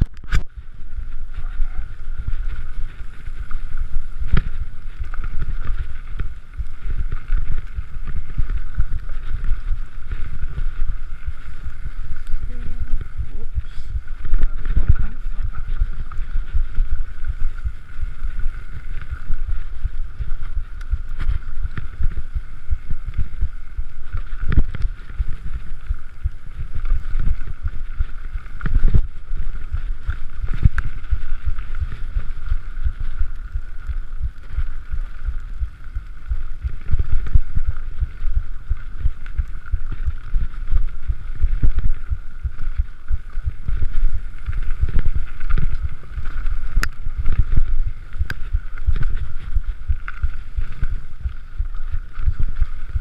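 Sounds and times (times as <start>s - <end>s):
bike tyres rumbling: 0.0s - 53.0s
wind buffeting microphone: 0.0s - 53.0s.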